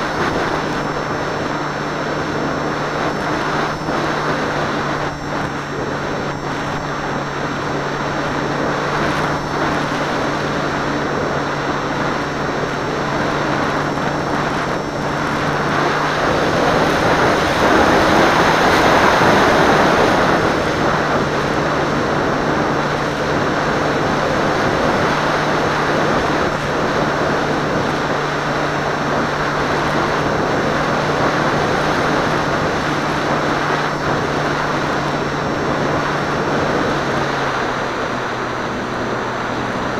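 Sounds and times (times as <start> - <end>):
plane propeller drone: 0.0 - 39.9
wind rushing over airframe: 0.0 - 39.9.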